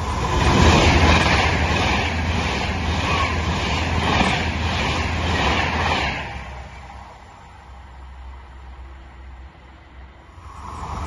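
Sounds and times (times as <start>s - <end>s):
electric train passing at speed: 0.0s - 11.0s.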